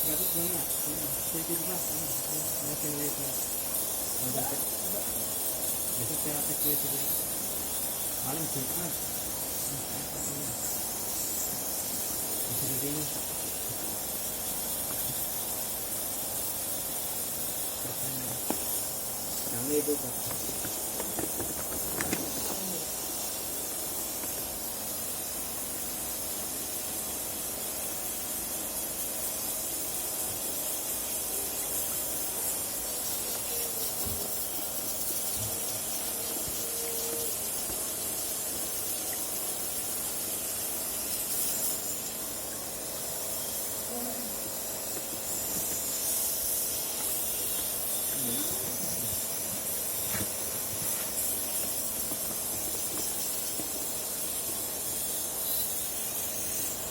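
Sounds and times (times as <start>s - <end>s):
high-pitched fluid spray hiss: 0.0s - 56.9s.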